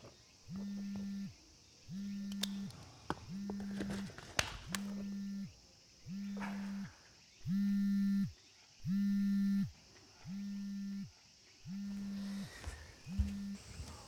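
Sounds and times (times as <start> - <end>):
phone vibrating buzz: 0.5 - 14.0.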